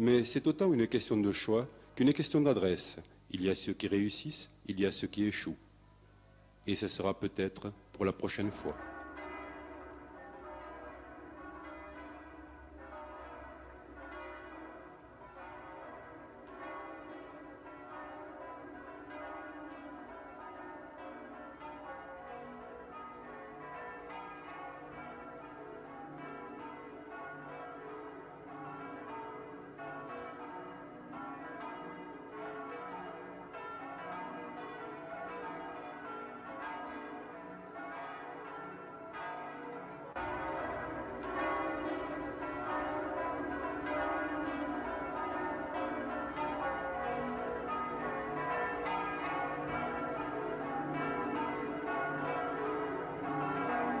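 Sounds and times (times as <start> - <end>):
church bells pealing: 8.1 - 54.0.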